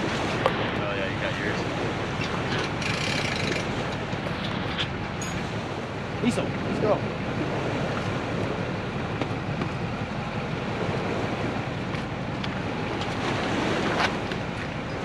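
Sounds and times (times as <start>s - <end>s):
water lapping at shore: 0.0s - 15.0s
wind rushing on microphone: 0.0s - 15.0s.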